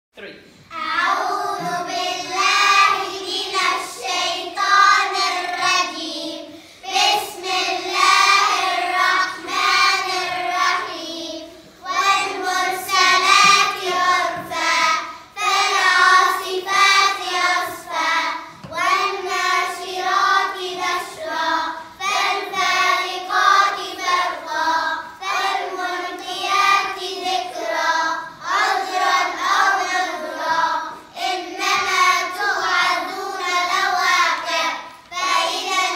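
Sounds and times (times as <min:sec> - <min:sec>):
girls singing in unison: 0:00.7 - 0:35.9.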